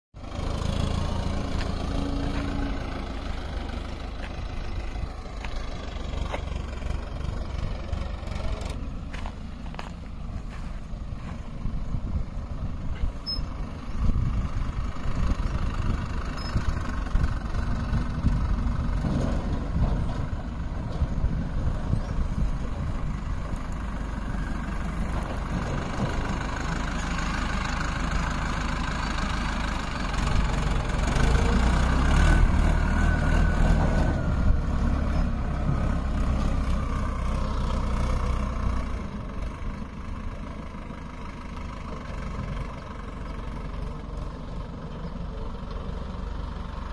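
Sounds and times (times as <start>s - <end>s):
heavy diesel engine running: 0.2s - 46.9s.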